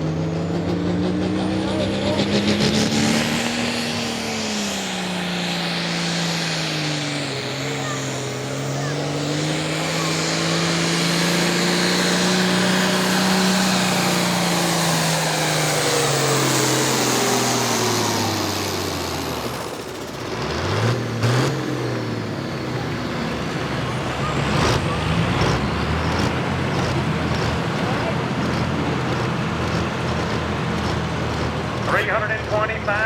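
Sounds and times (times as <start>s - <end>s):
diesel tractor engine lugging: 0.0s - 33.0s.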